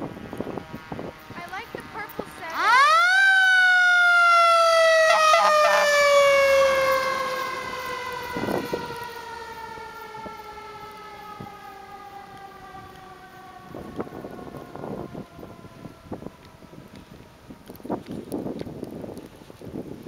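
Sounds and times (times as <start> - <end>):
fire engine mechanical siren wailing: 0.0 - 19.5.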